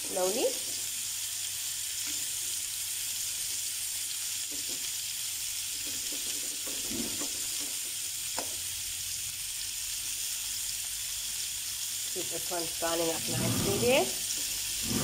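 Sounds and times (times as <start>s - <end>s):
meatballs sizzling in oil: 0.0s - 15.0s.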